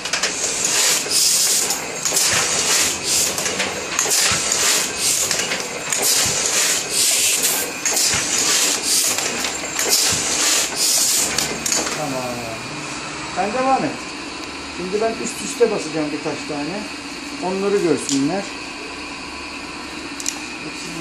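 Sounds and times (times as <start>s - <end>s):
printing press clicking and hissing: 0.0s - 18.9s.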